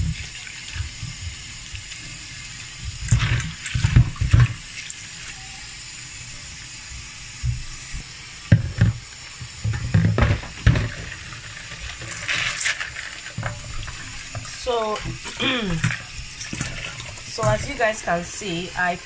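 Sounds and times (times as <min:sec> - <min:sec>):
tap water running: 0:00.0 - 0:19.0.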